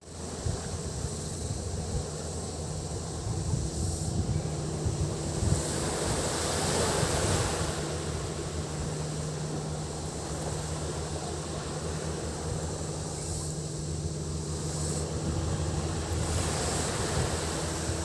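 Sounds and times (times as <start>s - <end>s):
cicadas buzzing: 0.0s - 18.0s
low engine hum: 0.0s - 18.0s
surf washing on shore: 0.0s - 18.0s.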